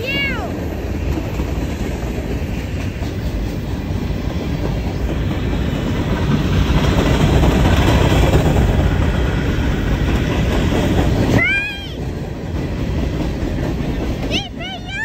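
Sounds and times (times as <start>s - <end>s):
freight cars rumbling on rails: 0.0s - 15.0s.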